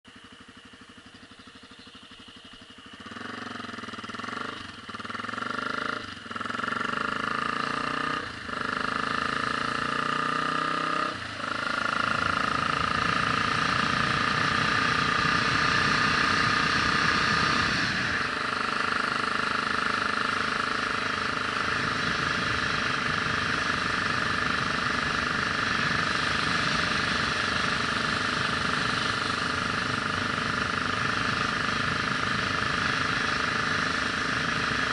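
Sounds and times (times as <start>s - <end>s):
vehicle engine accelerating: 0.1s - 34.9s.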